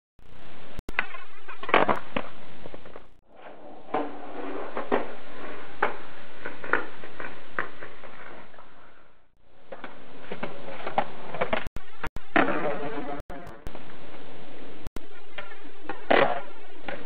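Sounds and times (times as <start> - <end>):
skateboard wheels rolling: 1.0 - 13.0, 15.3 - 17.0.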